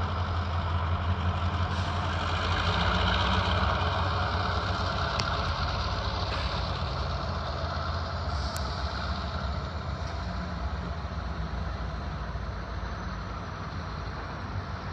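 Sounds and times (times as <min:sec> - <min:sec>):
diesel locomotive idling: 0:00.0 - 0:14.9.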